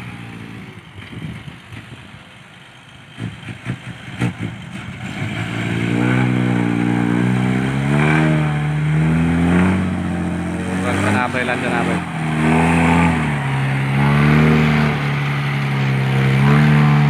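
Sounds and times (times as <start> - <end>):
truck diesel engine labouring: 0.0 - 17.0.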